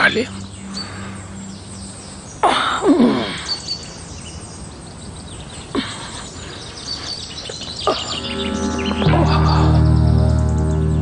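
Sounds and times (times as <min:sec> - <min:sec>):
faint bird chirps: 0:00.0 - 0:11.0
forest ambience: 0:00.0 - 0:11.0.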